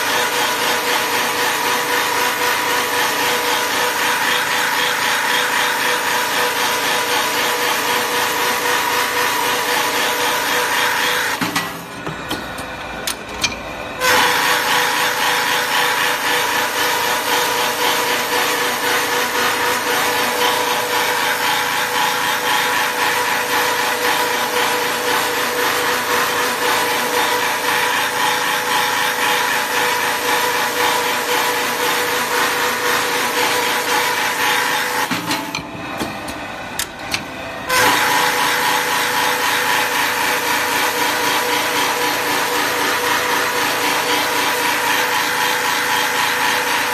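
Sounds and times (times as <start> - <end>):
cutter head whining through wood: 0.0 - 11.5, 14.0 - 36.2, 36.8 - 46.9.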